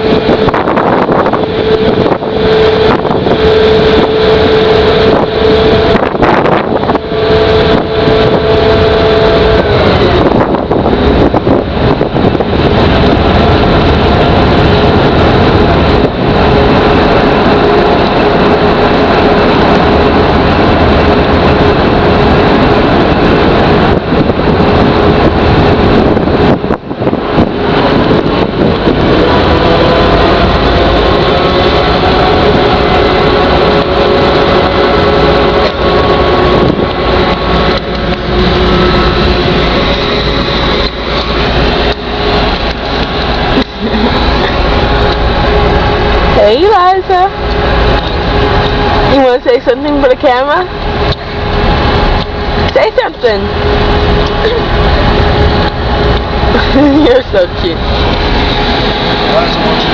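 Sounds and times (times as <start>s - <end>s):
ferry engine running: 0.0s - 59.9s
loud wash of noise: 0.0s - 59.9s
steady tones: 0.0s - 59.9s.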